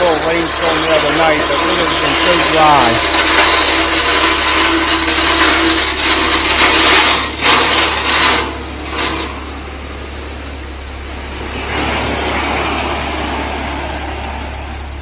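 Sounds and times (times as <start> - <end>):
crushed stone pouring: 0.0 - 14.6
truck engine hum: 0.0 - 15.0.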